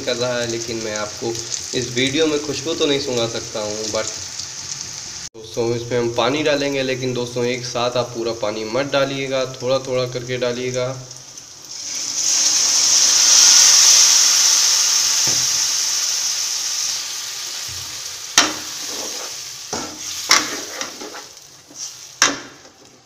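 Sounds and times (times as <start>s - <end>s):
water sizzling in hot pan: 0.0s - 23.0s.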